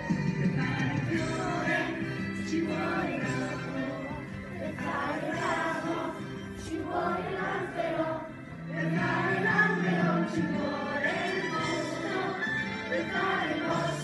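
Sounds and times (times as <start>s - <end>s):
choir singing: 0.8s - 14.0s.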